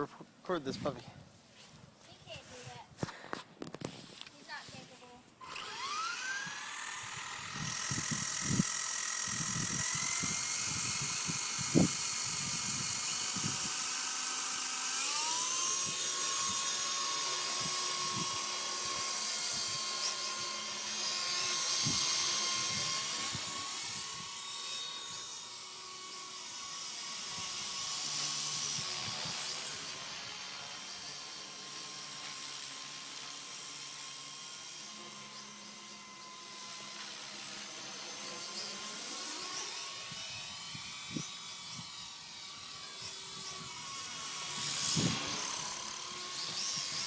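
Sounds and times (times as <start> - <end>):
toy helicopter motor whining: 3.7 - 47.0.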